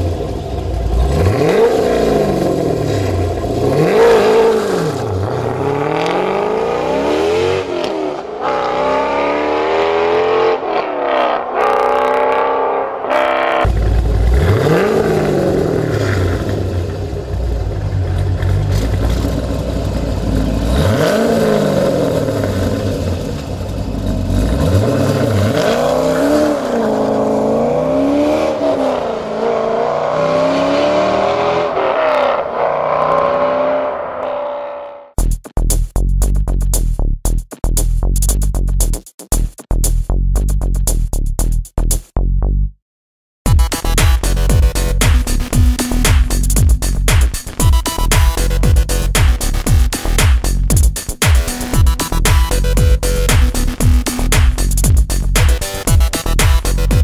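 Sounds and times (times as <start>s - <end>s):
car engine revving: 0.0s - 35.2s, 43.5s - 57.0s.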